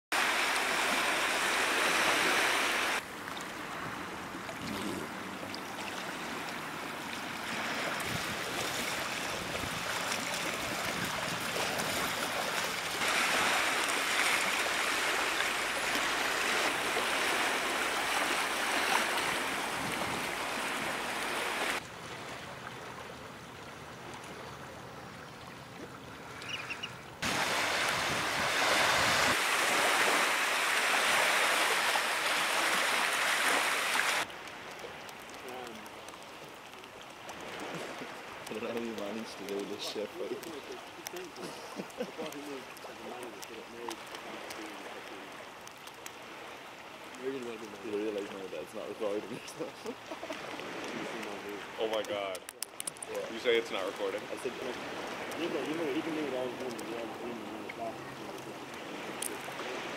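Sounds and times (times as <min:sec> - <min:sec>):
sea water lapping on rocks: 0:00.1 - 0:23.1, 0:27.2 - 0:59.9.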